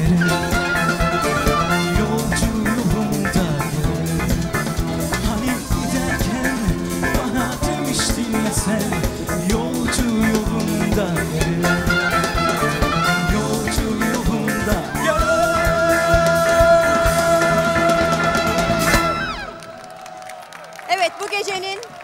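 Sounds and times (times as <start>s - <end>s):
man singing upbeat pop: 0.0s - 19.3s
live band playing: 0.0s - 20.1s.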